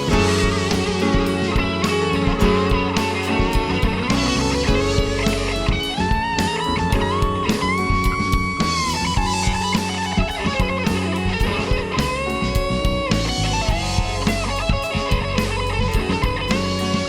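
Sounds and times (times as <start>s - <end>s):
bass: 0.0s - 17.0s
plucked guitar: 0.0s - 17.0s
steady drum beat: 0.0s - 17.0s.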